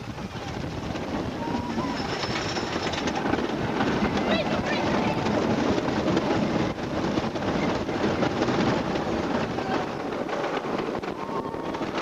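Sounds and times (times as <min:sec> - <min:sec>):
roller coaster rattling rumble: 0:00.0 - 0:12.0.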